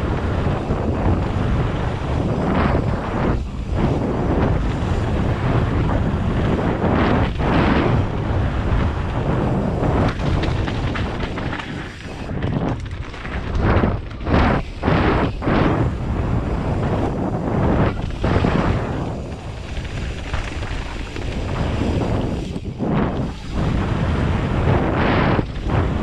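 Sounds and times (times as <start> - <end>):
bike rattling: 0.0 - 26.0
tyres on loose gravel: 0.0 - 26.0
wind noise on microphone: 0.0 - 26.0.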